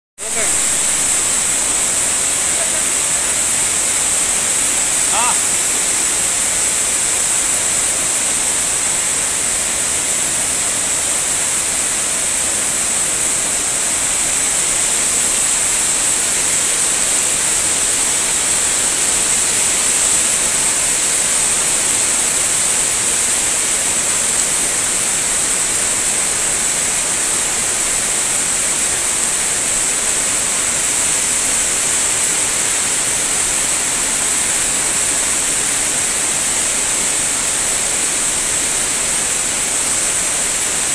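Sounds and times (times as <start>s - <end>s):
flood water rushing: 0.2s - 40.9s
heavy rain: 0.2s - 40.9s.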